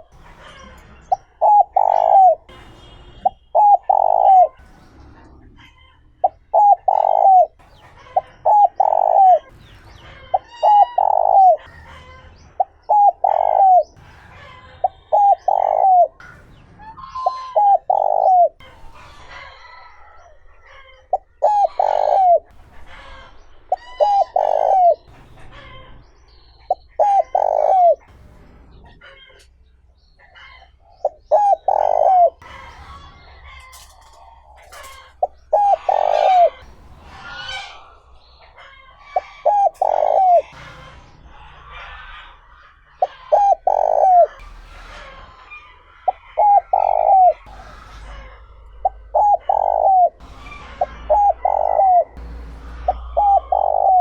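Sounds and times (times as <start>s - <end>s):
dove cooing: 0.0s - 9.6s, 10.2s - 12.0s, 12.6s - 14.0s, 14.8s - 16.3s, 17.0s - 25.8s, 26.6s - 28.1s, 30.4s - 40.7s, 41.3s - 44.5s, 45.4s - 54.0s
small birds chirping: 0.0s - 44.6s, 45.2s - 54.0s.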